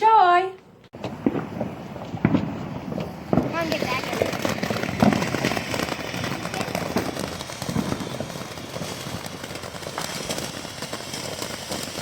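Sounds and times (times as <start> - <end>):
fireworks crackling and popping: 0.9 - 12.0.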